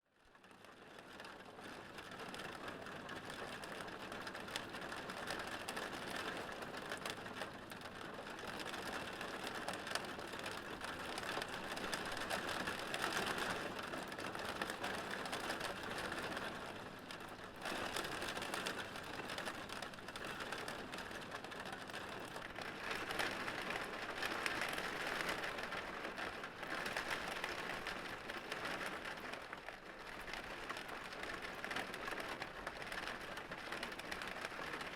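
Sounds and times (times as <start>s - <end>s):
rain pattering on window glass: 0.2s - 34.9s.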